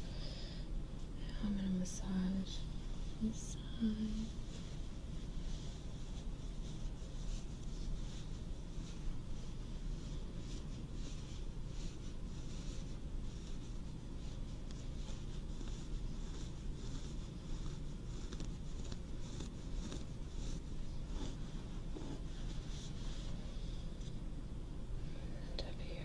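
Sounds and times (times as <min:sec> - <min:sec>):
hands rubbing near microphone: 0:02.7 - 0:24.2.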